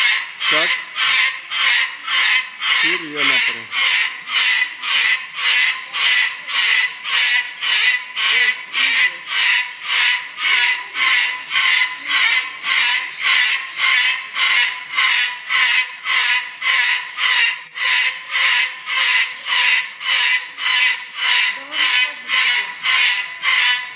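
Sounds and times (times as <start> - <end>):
cockatoo screeching: 0.0 - 23.9.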